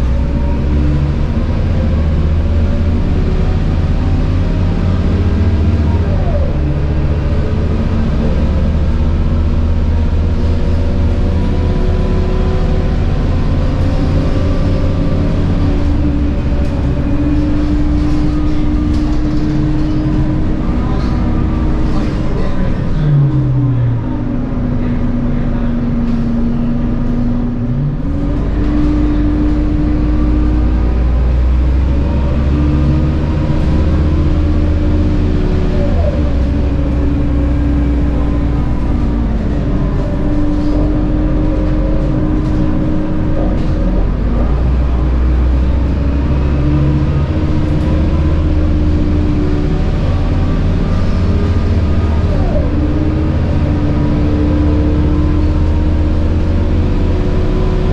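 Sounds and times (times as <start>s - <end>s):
bus engine droning: 0.0s - 57.9s.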